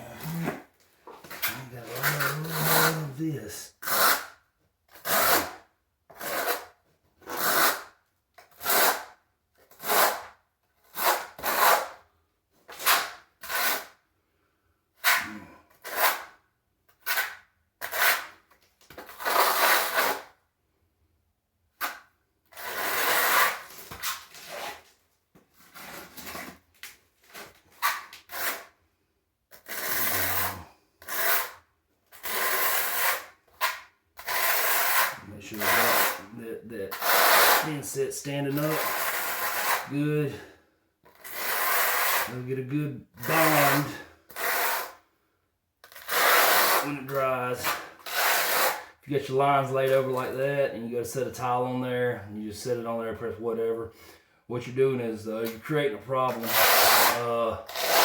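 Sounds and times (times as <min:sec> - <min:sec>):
hand tool scraping tile floor: 0:00.0 - 0:12.0, 0:12.7 - 0:14.0, 0:15.0 - 0:20.4, 0:21.8 - 0:28.8, 0:29.5 - 0:45.0, 0:45.8 - 0:50.4, 0:55.4 - 0:58.0.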